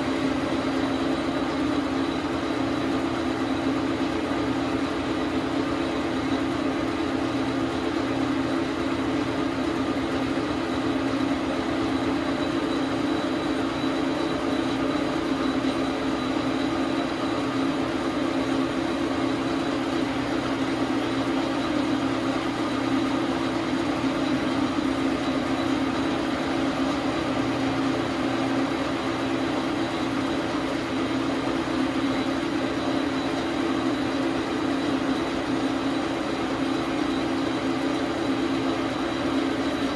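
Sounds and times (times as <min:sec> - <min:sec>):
metal lathe humming: 0:00.0 - 0:39.9.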